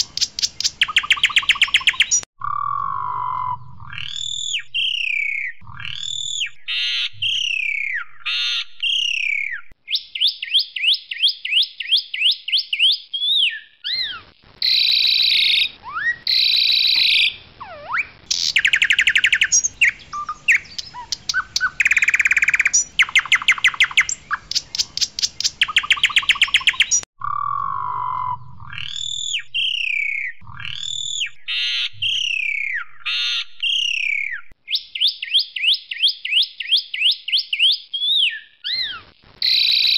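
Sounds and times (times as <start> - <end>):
starling singing: 0.0 - 11.0, 11.6 - 35.1.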